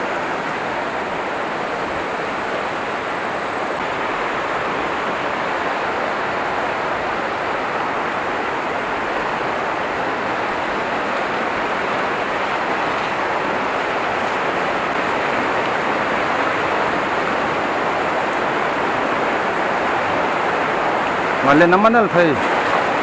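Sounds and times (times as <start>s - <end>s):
river rushing over stones: 0.0s - 23.0s.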